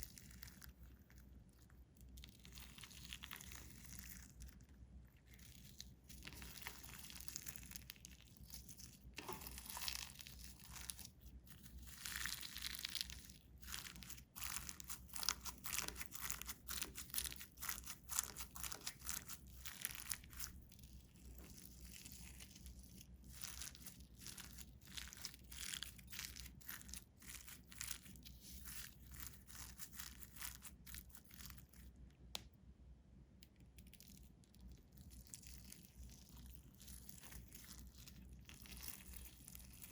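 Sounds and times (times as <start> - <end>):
slime squishing by hand: 0.0 - 32.5, 33.4 - 39.9.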